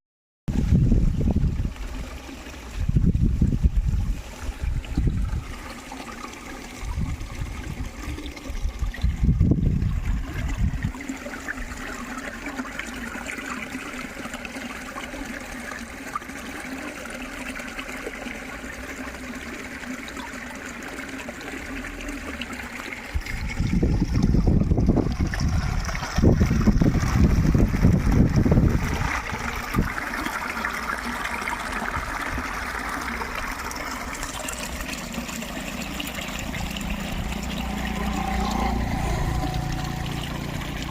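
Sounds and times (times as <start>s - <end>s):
water trickling: 0.6s - 40.9s.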